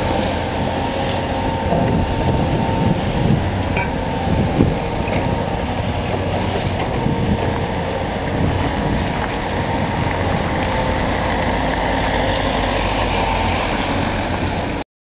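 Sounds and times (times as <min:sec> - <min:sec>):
excavator engine and hydraulics: 0:00.0 - 0:14.8.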